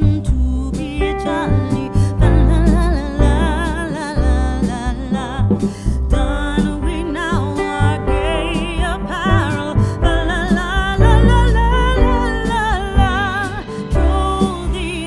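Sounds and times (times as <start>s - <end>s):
guitar: 0.0s - 15.0s
person singing: 0.0s - 15.0s
steady bass line: 0.0s - 15.0s.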